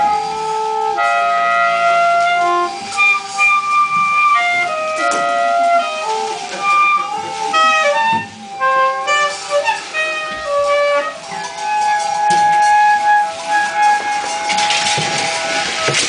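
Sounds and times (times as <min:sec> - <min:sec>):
overlapping pitched tones: 0:00.0 - 0:16.0
wind instrument held notes: 0:00.0 - 0:16.0.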